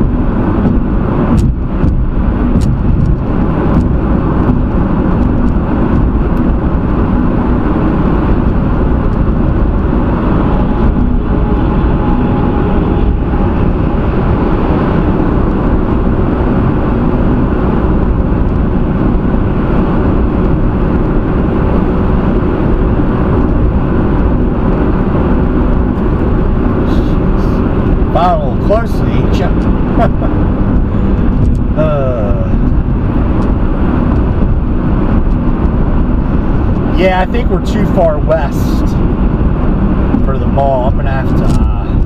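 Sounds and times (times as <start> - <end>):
car road noise: 0.0 - 42.0.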